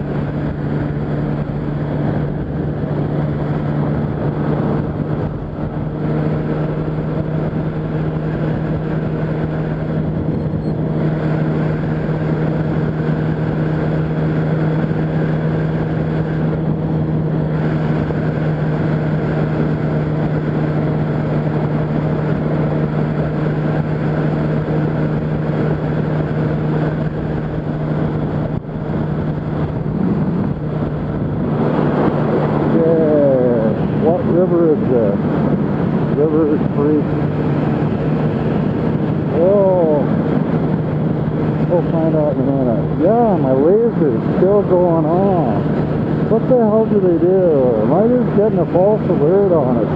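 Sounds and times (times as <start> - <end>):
motorcycle engine cruising: 0.0 - 49.9.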